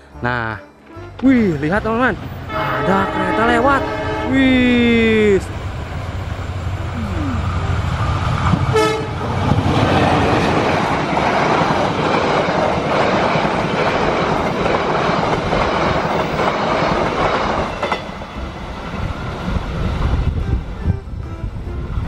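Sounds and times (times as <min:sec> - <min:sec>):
passenger train passing: 0:00.0 - 0:22.0.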